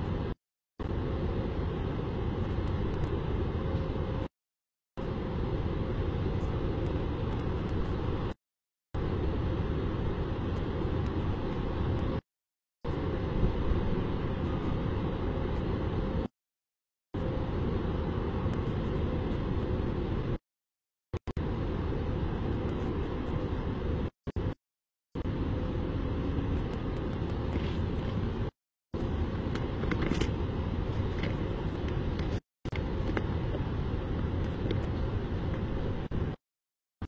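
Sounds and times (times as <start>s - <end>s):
distant city traffic rumble: 0.0s - 4.3s, 5.0s - 8.4s, 9.0s - 12.2s, 12.9s - 16.3s, 17.2s - 20.4s, 21.2s - 24.6s, 25.2s - 36.4s.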